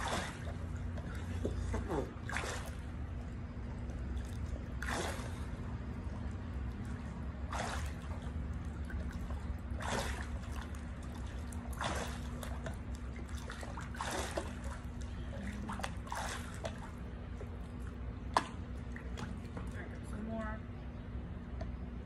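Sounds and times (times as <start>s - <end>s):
pool water sloshing and splashing: 0.0s - 21.9s
low hum: 0.0s - 22.0s.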